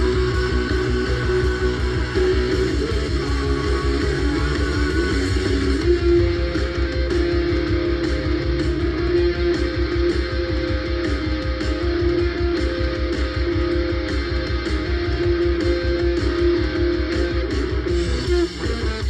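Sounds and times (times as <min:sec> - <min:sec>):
bass: 0:00.0 - 0:19.0
distorted electric guitar: 0:00.0 - 0:19.0
drums: 0:00.0 - 0:19.0.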